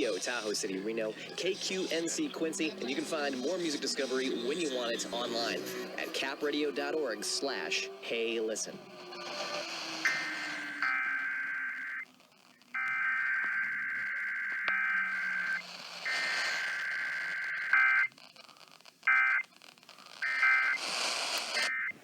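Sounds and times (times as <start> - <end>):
two-tone data burst screeches: 0.0 - 6.1, 8.8 - 22.0.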